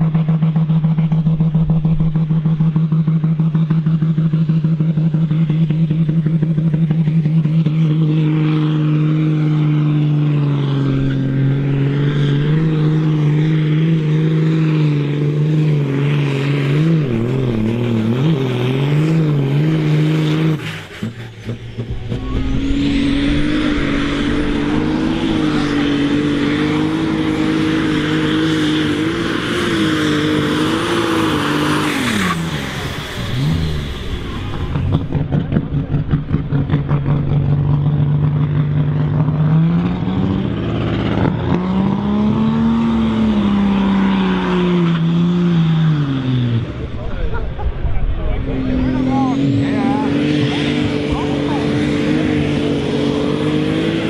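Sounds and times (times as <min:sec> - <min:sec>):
higher-pitched tractor engine: 0:00.0 - 0:54.0
tractor diesel engine running hard: 0:00.0 - 0:54.0.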